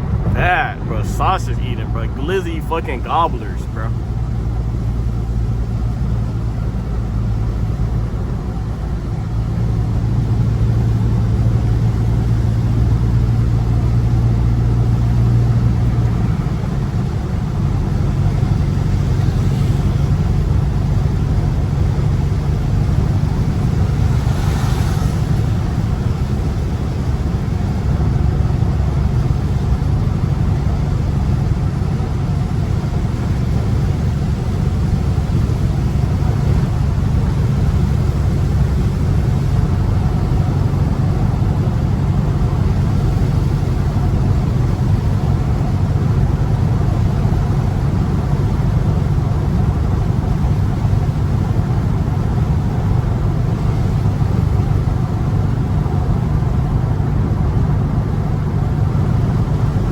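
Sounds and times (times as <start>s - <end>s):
car engine drone: 0.0s - 59.9s
road and tyre noise: 0.0s - 59.9s.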